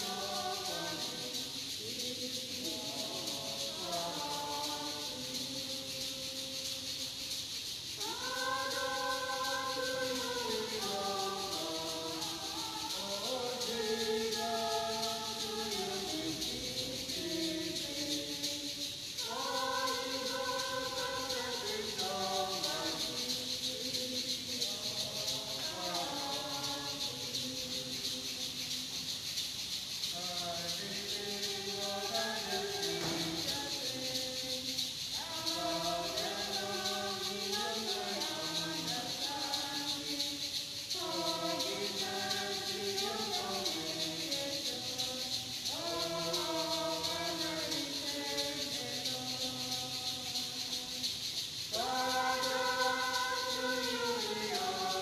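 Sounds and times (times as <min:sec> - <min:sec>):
choir singing a hymn: 0:00.0 - 0:55.0
shaker rattling: 0:00.0 - 0:55.0.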